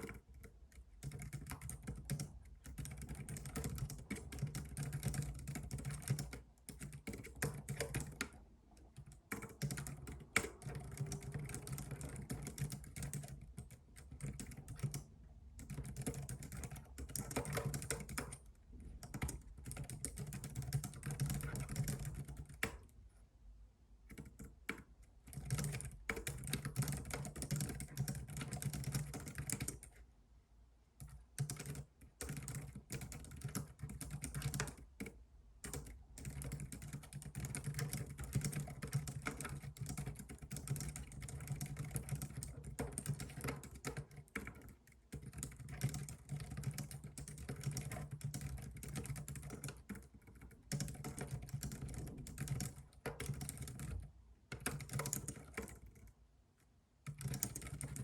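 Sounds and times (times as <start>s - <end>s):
computer keyboard typing: 0.0s - 22.9s, 24.1s - 30.0s, 31.0s - 56.2s, 57.0s - 58.0s.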